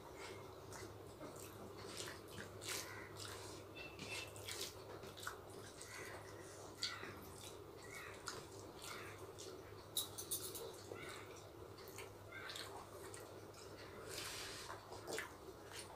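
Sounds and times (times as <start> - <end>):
hands mixing wet rice: 0.0 - 10.0, 10.8 - 15.9
chewing: 0.0 - 15.9
low room hum: 0.0 - 15.9.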